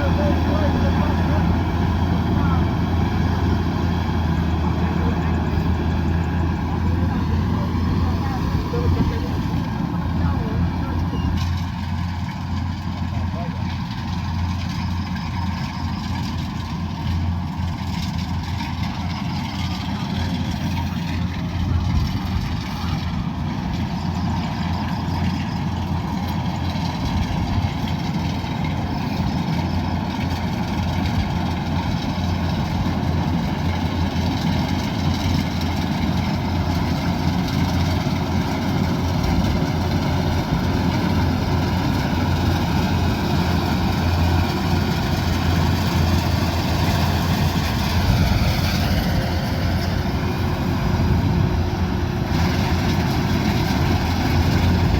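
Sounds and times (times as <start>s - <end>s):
combine harvester diesel engine: 0.0s - 54.9s.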